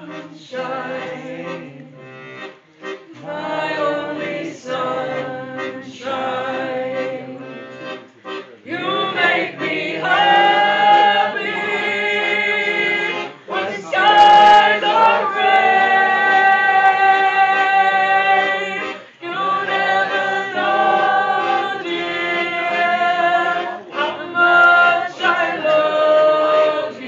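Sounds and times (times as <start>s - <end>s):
piano accordion: 0.0s - 27.0s.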